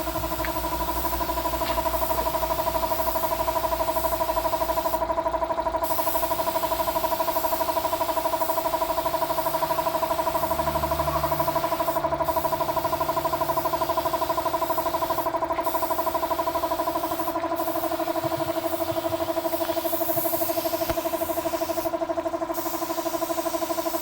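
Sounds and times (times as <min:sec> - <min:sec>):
small motor humming and pulsing: 0:00.0 - 0:24.0.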